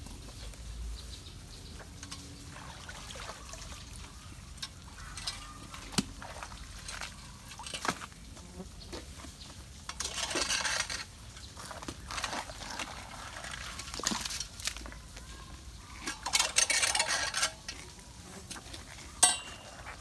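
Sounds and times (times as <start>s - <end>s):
water trickling through debris: 0.0s - 20.0s.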